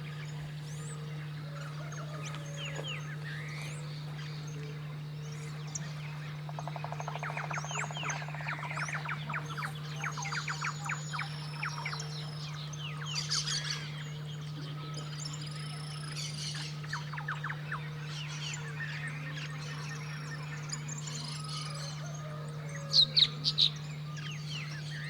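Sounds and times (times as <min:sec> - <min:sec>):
steady low hum: 0:00.0 - 0:25.0
wild birds chirping and whistling: 0:00.0 - 0:25.0.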